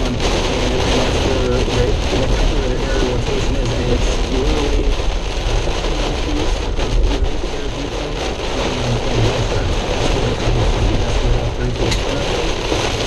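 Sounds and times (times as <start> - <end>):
heavy rain on car: 0.0 - 13.0
road noise inside car: 0.0 - 13.0.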